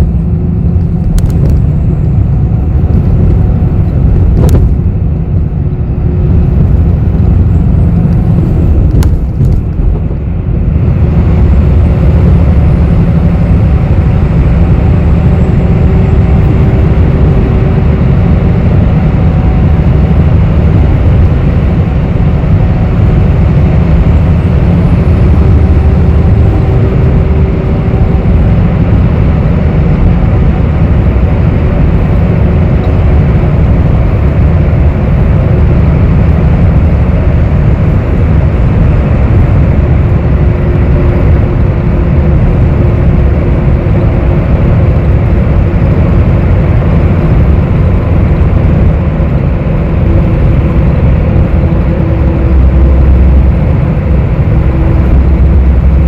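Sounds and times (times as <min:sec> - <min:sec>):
bus engine and road rumble: 0:00.0 - 0:56.0
faint whine: 0:00.0 - 0:56.0.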